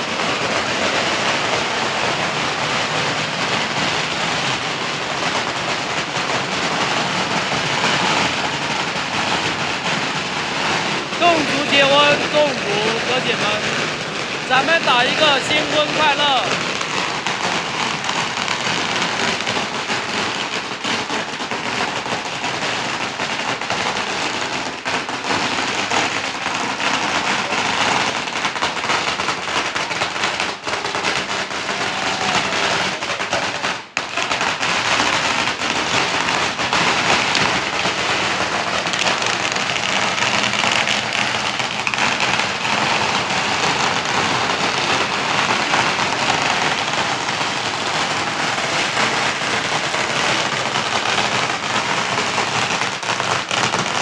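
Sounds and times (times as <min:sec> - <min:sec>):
firecrackers crackling: 0:00.0 - 0:54.0.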